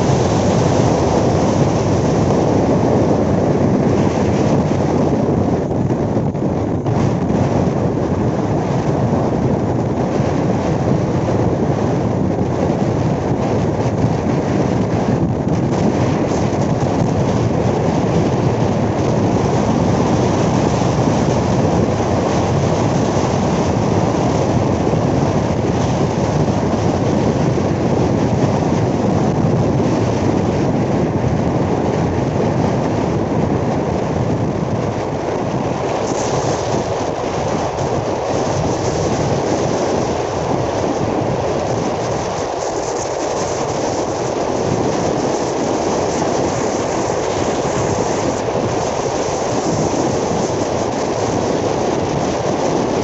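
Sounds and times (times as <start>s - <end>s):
train rumbling at speed: 0.0s - 53.0s
wind across microphone: 0.0s - 53.0s.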